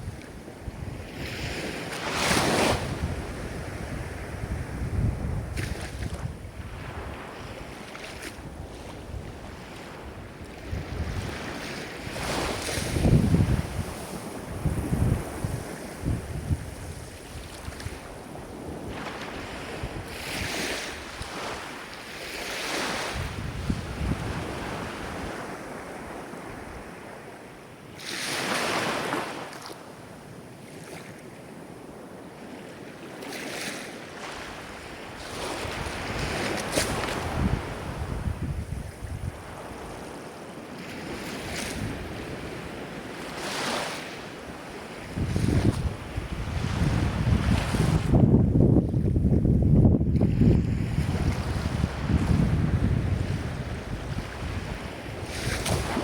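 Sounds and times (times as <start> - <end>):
wind rumble on microphone: 0.0 - 27.2, 34.2 - 56.0
ocean waves breaking: 6.6 - 29.9, 32.3 - 48.3, 50.1 - 56.0.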